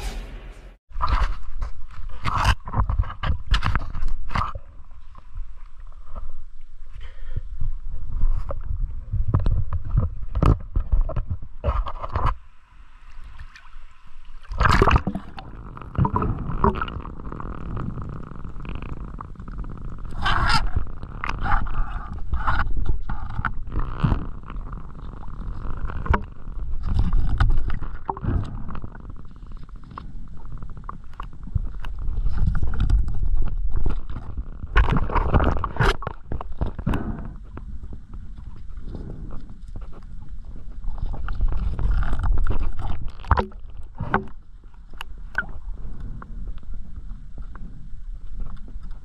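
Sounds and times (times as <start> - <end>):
muffled underwater water rumble: 0.9 - 49.0.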